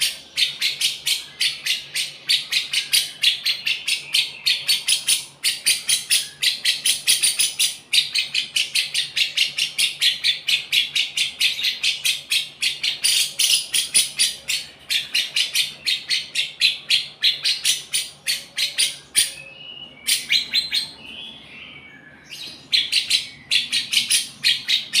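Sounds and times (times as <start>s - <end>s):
bird high rapid chirps: 0.0s - 25.0s.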